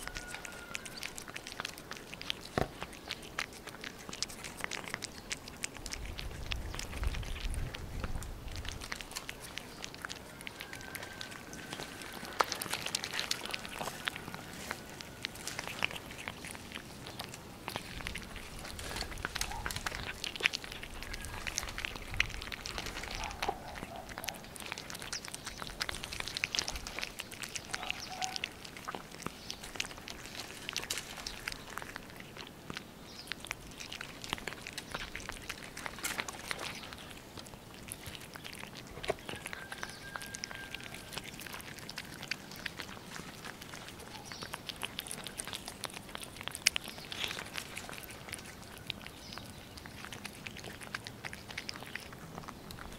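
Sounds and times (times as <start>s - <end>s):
cats chewing and licking: 0.0s - 52.9s
small clicks and smacks: 0.0s - 52.9s.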